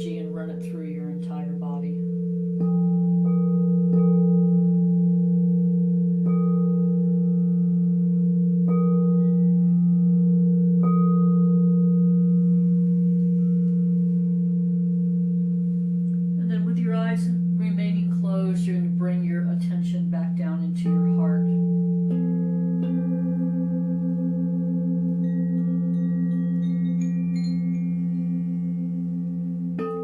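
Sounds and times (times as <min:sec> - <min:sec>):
singing bowl low hum: 0:00.0 - 0:30.0.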